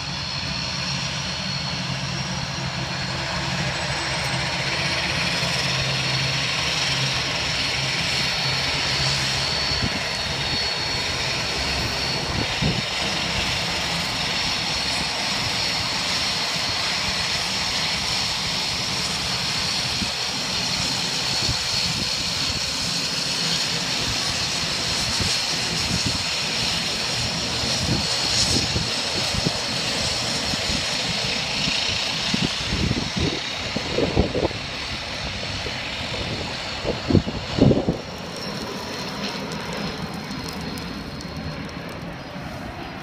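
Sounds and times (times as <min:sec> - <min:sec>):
airliner engines whining: 0:00.0 - 0:43.0.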